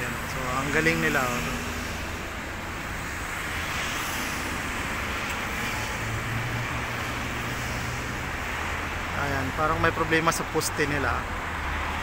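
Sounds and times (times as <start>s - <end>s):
road noise of passing vehicles: 0.0s - 12.0s.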